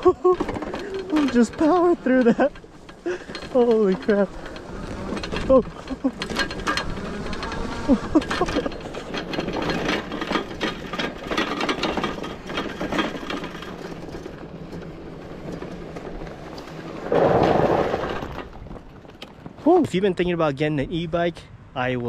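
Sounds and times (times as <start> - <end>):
bike rattling over bumps: 0.0 - 20.2
tires crunching over stones: 0.0 - 20.4.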